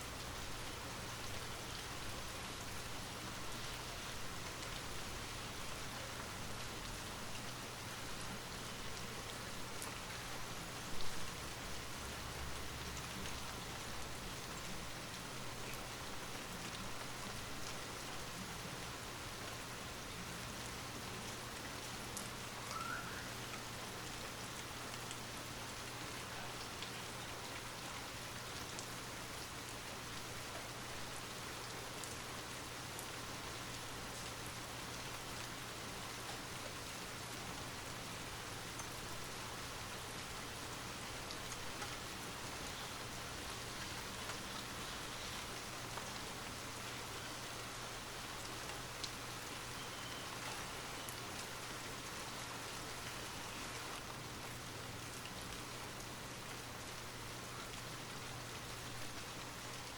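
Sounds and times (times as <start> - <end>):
light rain falling: 0.0 - 59.9.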